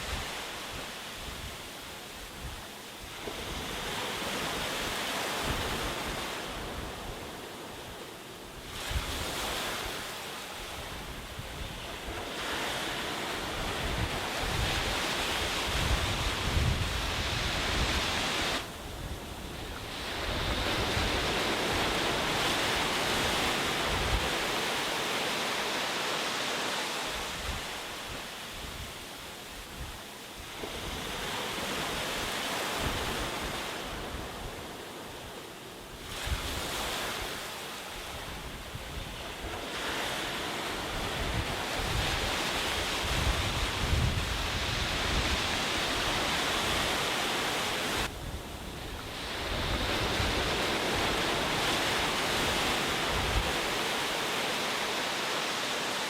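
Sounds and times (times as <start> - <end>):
wind rumbling on microphone: 0.0 - 7.9, 8.5 - 24.9, 27.0 - 54.4
sea waves breaking on beach: 0.0 - 56.0.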